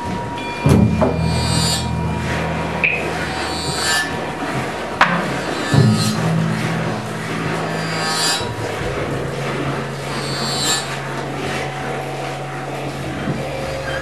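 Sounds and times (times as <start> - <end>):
held low note: 0.0 - 14.0
bright swishes: 0.3 - 14.0
scraping rasping texture: 0.9 - 14.0.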